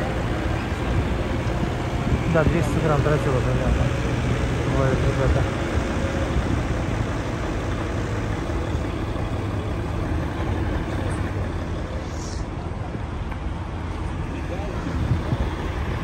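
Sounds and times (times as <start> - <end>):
traffic on wet street: 0.0 - 16.0.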